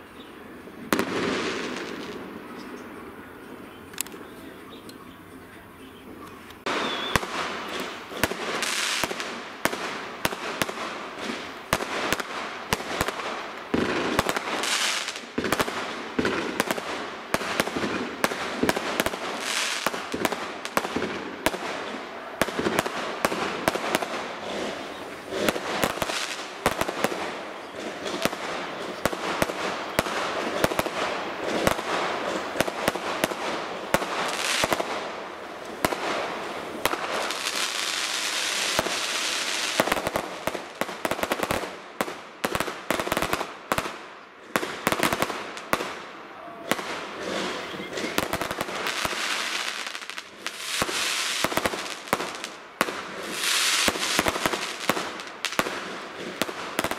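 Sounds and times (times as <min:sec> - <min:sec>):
steady hiss: 0:00.0 - 0:56.9
fireworks bangs: 0:00.7 - 0:04.1, 0:06.1 - 0:56.9.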